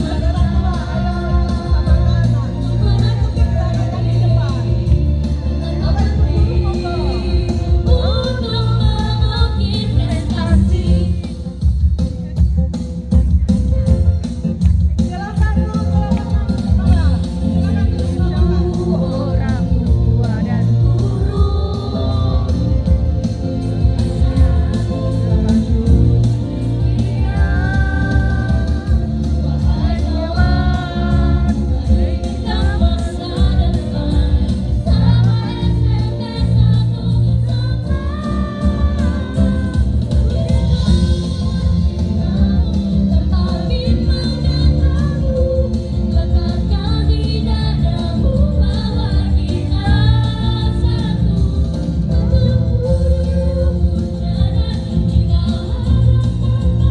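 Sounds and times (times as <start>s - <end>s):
amplified accompaniment with beat: 0.0s - 56.9s
music with heavy bass: 0.0s - 56.9s.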